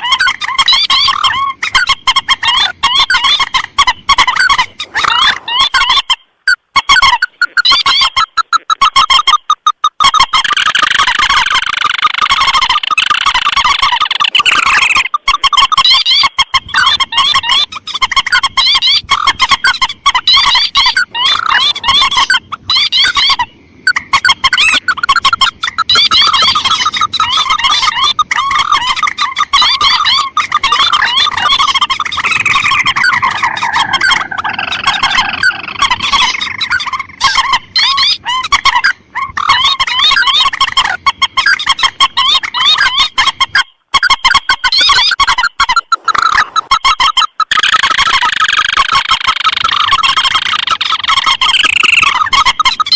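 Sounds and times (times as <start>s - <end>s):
rising bird calls: 0.0s - 52.9s.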